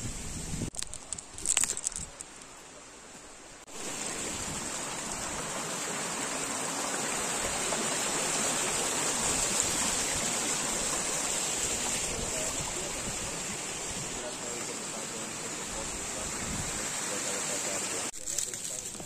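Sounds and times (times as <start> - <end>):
water flowing: 0.7 - 19.0.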